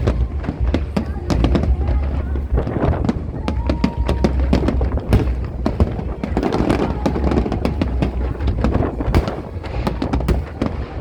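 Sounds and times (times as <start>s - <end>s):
fireworks bangs and crackles: 0.0s - 11.0s
steady low rumble: 0.0s - 11.0s.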